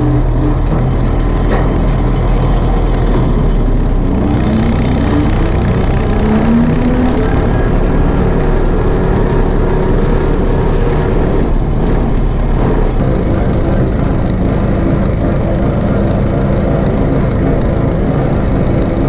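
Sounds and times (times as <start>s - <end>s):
rough rattle: 0.0s - 19.0s
tractor engine running: 0.0s - 19.0s.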